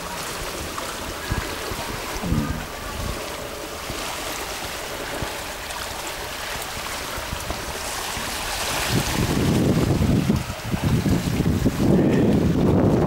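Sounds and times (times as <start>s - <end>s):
shallow water lapping: 0.0s - 13.0s.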